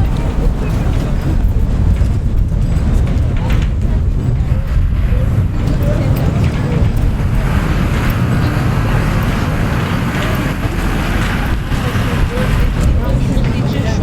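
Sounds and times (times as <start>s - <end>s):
street noise hiss: 0.0s - 14.0s
traffic rumble: 0.0s - 14.0s
wind buffeting microphone: 0.0s - 14.0s.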